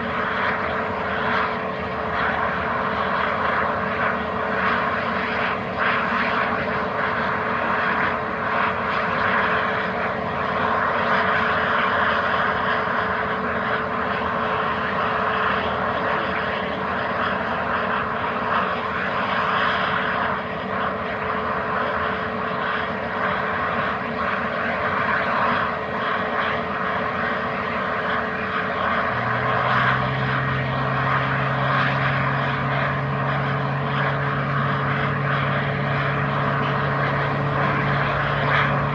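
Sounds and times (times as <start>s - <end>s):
constant engine whine: 0.0s - 38.9s
jet engines running: 0.0s - 38.9s
low steady hum: 0.0s - 38.9s.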